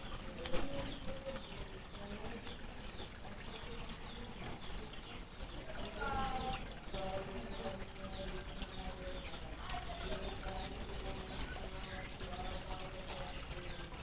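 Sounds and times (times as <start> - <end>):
waterfall pouring into pond: 0.0 - 14.0.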